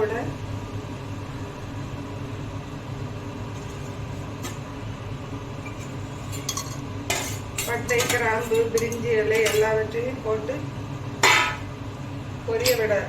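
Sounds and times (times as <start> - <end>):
gas stove burner rumbling: 0.0 - 13.0.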